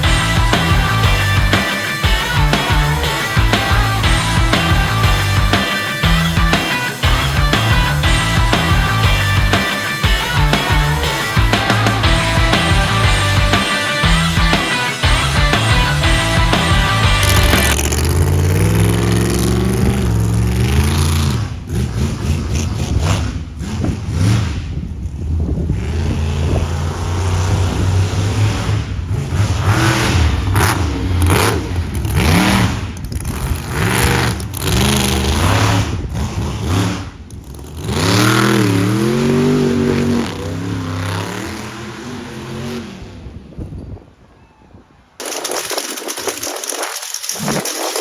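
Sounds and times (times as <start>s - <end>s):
truck engine revving: 0.0s - 43.5s.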